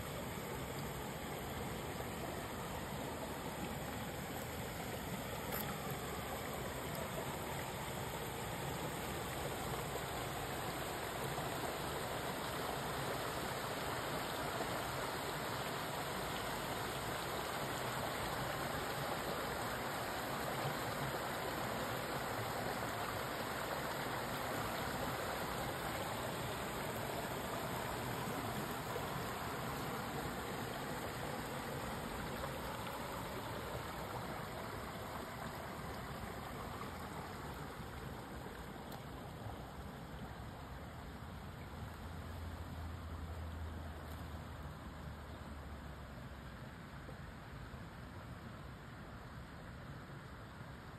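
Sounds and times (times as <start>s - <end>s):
stream flowing over rocks: 0.0s - 50.9s.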